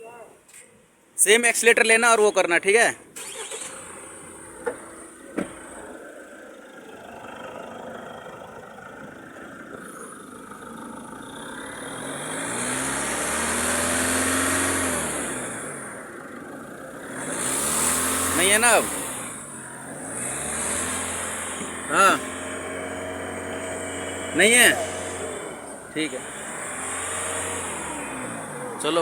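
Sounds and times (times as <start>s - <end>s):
car engine revving: 3.1s - 29.0s.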